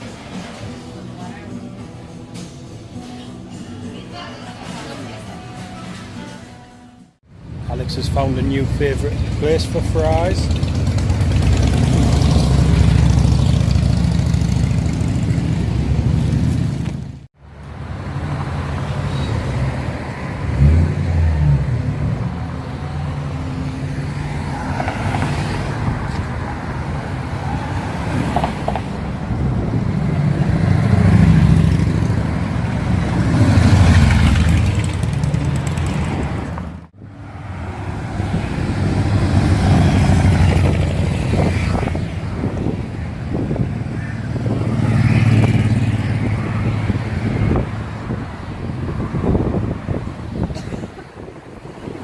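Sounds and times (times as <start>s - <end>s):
car engines passing: 7.2s - 52.0s.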